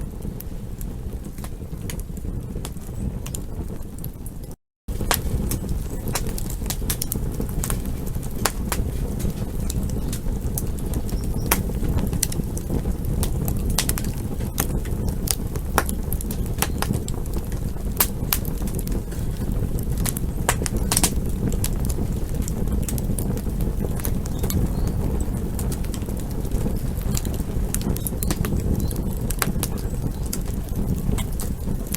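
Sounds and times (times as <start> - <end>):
burning wood crackles and pops: 0.0 - 31.9
campfire flames rushing: 0.0 - 31.9.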